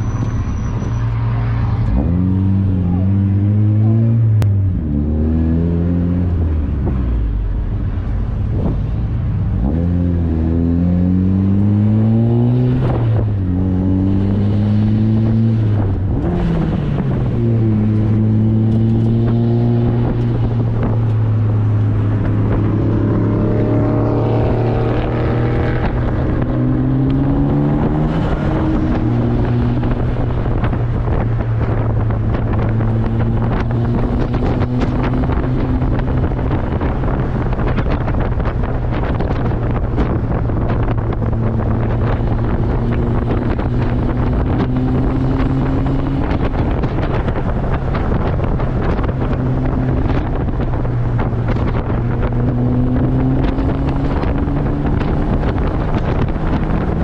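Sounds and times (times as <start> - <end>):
car engine accelerating: 0.0 - 57.0
wind rushing: 0.0 - 57.0.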